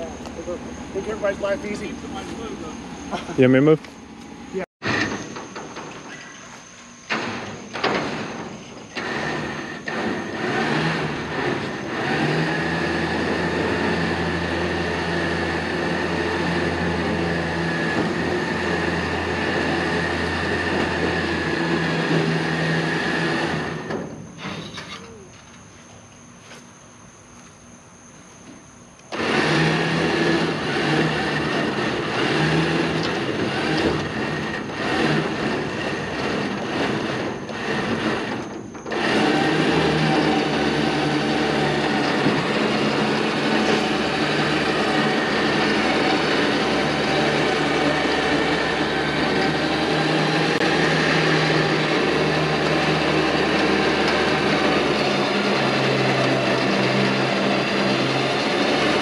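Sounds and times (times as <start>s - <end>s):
electric winch motor whining: 0.0s - 25.6s, 29.0s - 59.0s.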